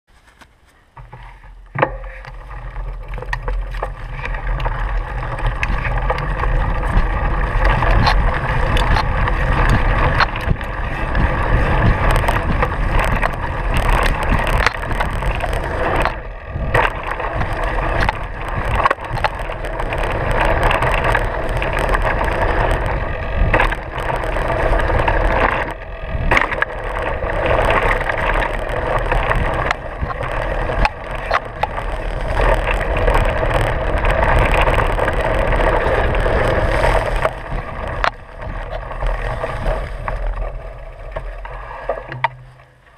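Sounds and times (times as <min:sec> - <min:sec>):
bike knocks and rattles: 0:00.1 - 0:42.9
wind on microphone: 0:01.8 - 0:42.9.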